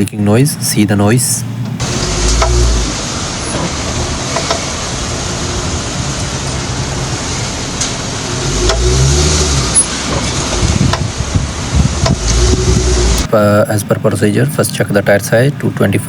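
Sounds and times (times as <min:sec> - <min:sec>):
car road and drivetrain noise: 0:00.0 - 0:14.4.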